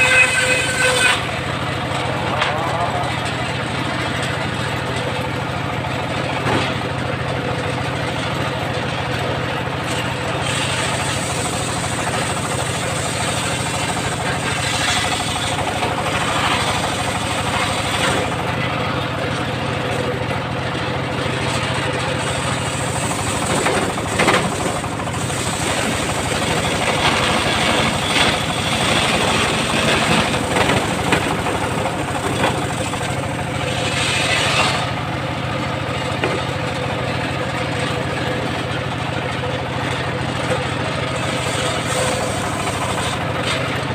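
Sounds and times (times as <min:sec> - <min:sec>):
saw blade cutting wood: 0:00.0 - 0:43.9
sawmill engine humming: 0:00.0 - 0:43.9.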